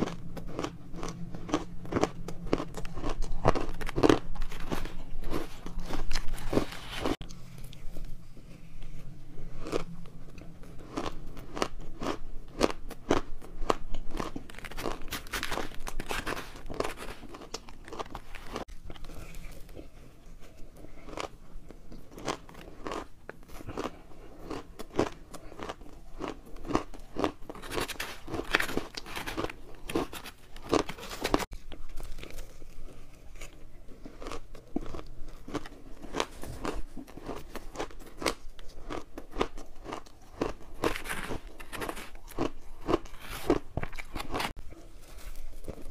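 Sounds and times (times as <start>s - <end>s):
crunching and chewing ice: 0.0s - 8.2s, 8.8s - 45.9s.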